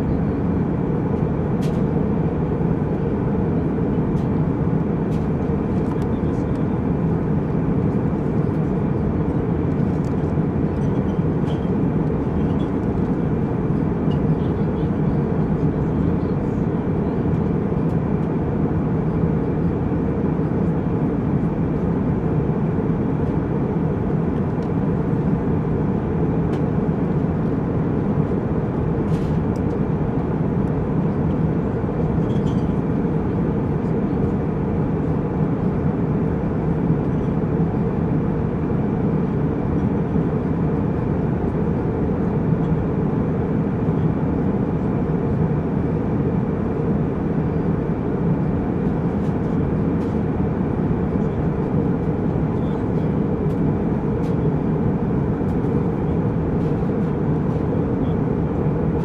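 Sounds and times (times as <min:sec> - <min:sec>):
jet engine cabin drone: 0:00.0 - 0:59.0.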